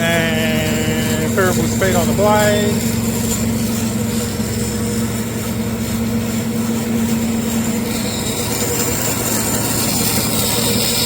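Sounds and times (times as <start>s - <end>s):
bandsaw humming: 0.0s - 11.0s
high whine: 0.0s - 11.0s.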